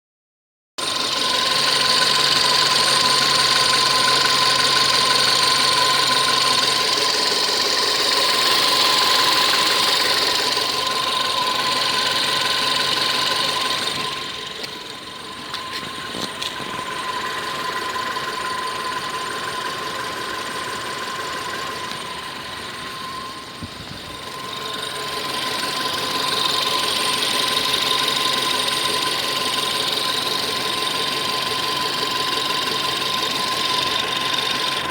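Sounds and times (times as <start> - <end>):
car engine idling: 0.8 - 34.9
high transmission whistle: 0.8 - 34.9.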